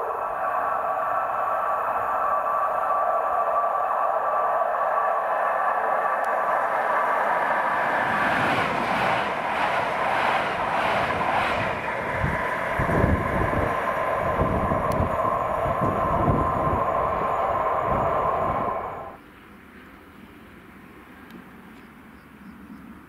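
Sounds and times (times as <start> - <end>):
low rumbling: 0.0 - 19.2
train wheels rushing on rail: 0.0 - 19.2
train whine: 0.0 - 19.2.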